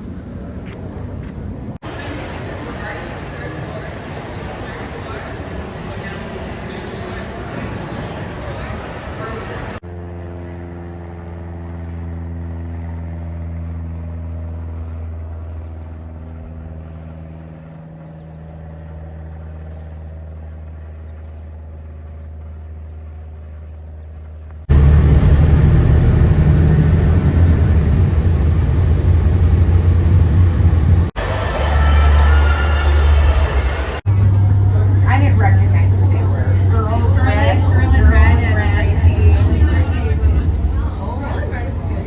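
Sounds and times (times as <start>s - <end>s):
aircraft engines droning: 0.0s - 42.0s
rough engine rumble: 1.7s - 42.0s.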